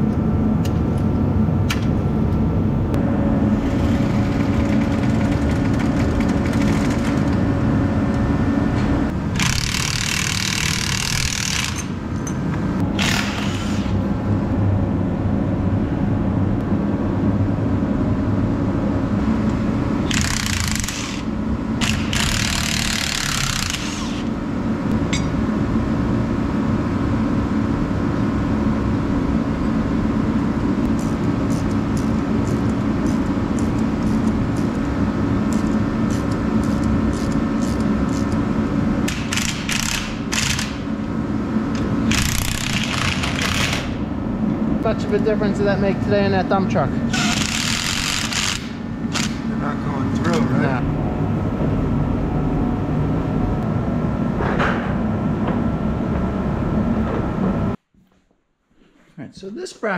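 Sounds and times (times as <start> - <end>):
engine running: 0.4 - 57.8.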